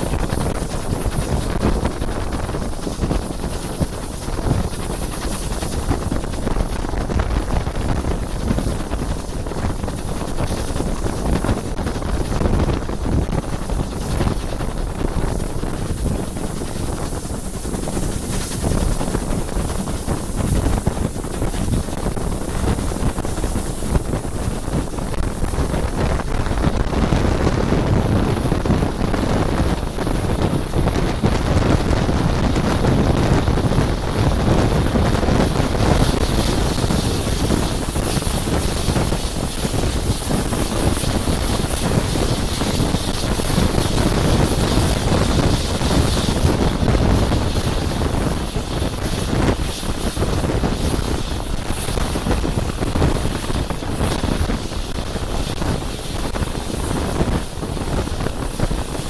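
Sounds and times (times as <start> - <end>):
train carriage rumbling on track: 0.0 - 59.0
wind buffeting microphone: 0.0 - 59.0.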